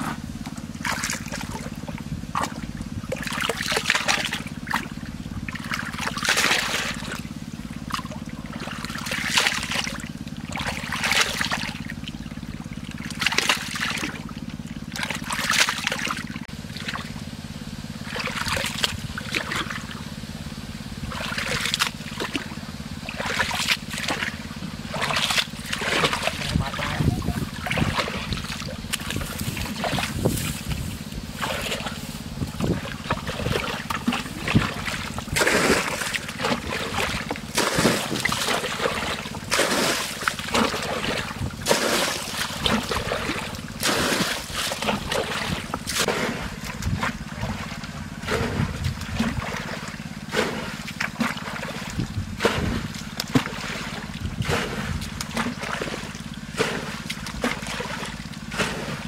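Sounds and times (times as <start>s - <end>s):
low motor hum: 0.0s - 59.0s
water splashing and sloshing: 0.0s - 59.0s.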